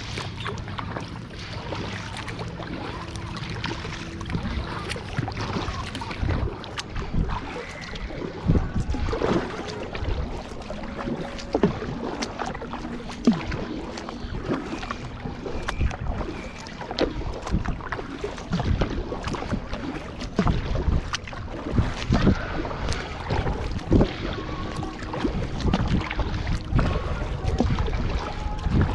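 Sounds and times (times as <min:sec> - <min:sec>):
low wind rumble on microphone: 0:00.0 - 0:28.9
paddle strokes splashing: 0:00.0 - 0:28.9.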